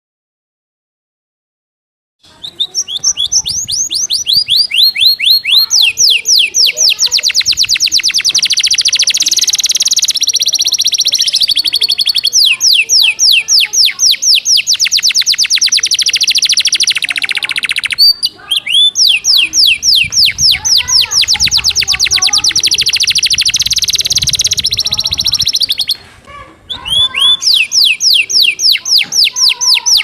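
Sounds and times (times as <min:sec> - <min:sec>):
canary singing trills: 0:02.2 - 0:30.0.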